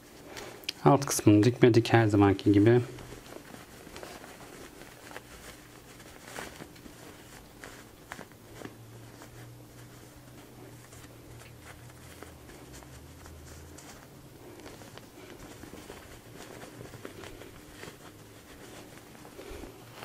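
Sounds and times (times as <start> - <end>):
fabric rustling and brushing: 0.0 - 0.4, 1.3 - 20.0
faint low hum: 0.0 - 20.0.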